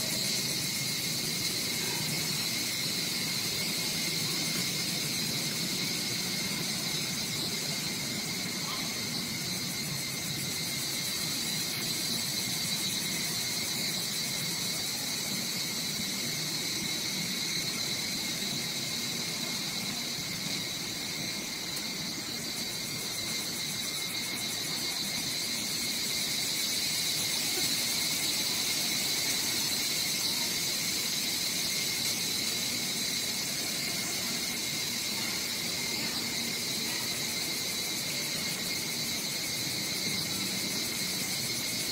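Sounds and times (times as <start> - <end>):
high-pitched insect drone: 0.0 - 41.9.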